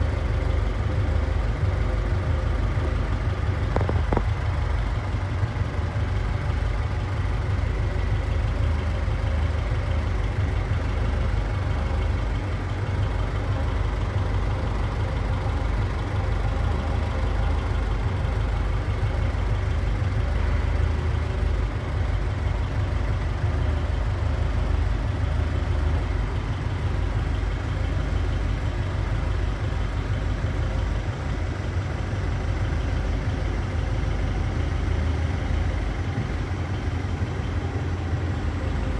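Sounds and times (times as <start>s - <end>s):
car engine running steadily: 0.0s - 38.9s.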